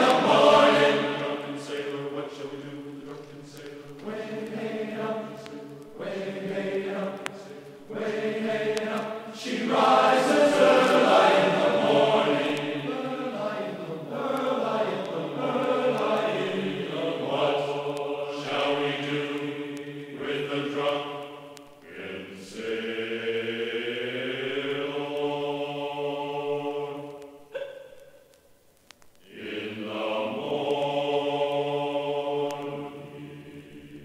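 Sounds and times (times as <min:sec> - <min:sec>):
group singing a sea shanty: 0:00.0 - 0:27.8, 0:29.2 - 0:34.0.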